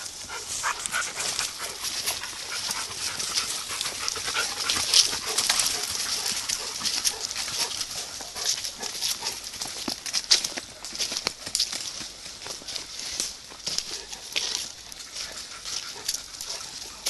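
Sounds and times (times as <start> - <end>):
footsteps in leaf litter: 0.0 - 17.0.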